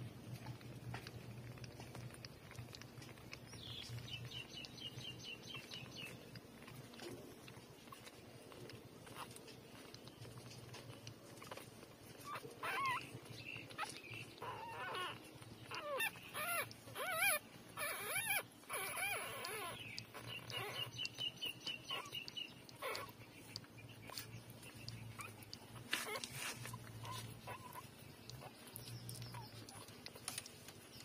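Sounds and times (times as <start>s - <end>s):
tiny squeaks: 0.3s - 31.0s
puppies whimpering and squealing: 0.4s - 31.0s.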